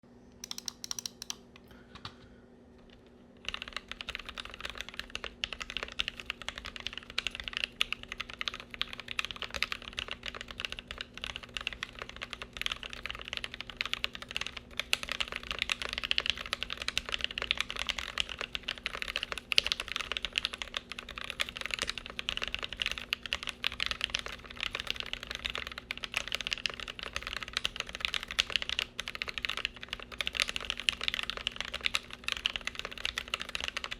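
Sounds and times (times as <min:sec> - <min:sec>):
typing on mechanical keyboard: 0:00.4 - 0:01.4, 0:03.4 - 0:33.9.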